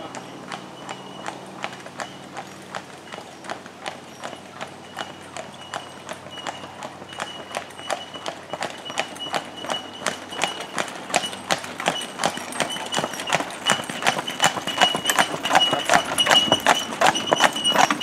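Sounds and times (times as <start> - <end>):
horse hooves clopping on pavement: 0.0 - 18.0.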